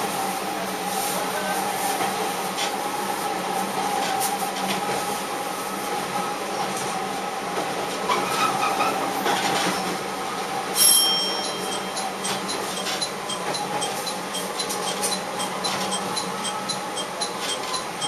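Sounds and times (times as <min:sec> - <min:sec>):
railcar running hum: 0:00.0 - 0:18.0
wheel noise on rails: 0:00.0 - 0:18.0.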